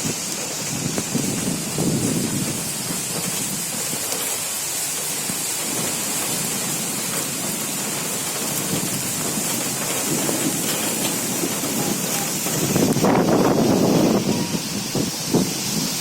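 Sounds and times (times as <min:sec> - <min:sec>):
heavy rain pouring: 0:00.0 - 0:16.0
wind rumbling on microphone: 0:00.0 - 0:16.0.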